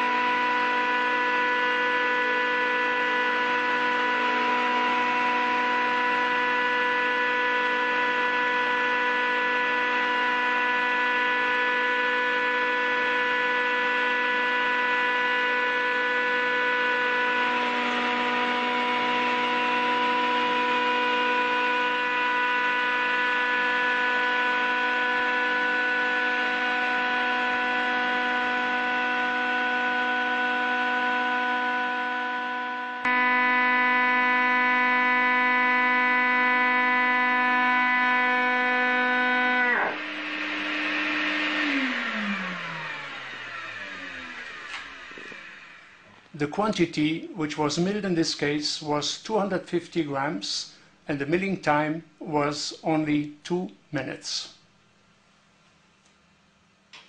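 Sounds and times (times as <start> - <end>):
rushing of material being cut: 0.0 - 46.6
cutting mill machine hum: 0.0 - 49.5.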